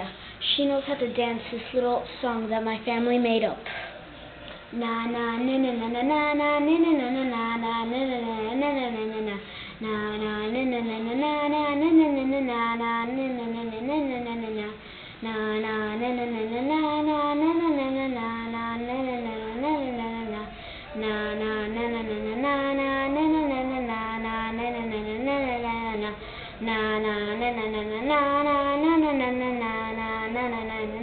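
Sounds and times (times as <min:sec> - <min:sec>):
child singing wordless tune: 0:00.0 - 0:03.7, 0:04.7 - 0:31.0.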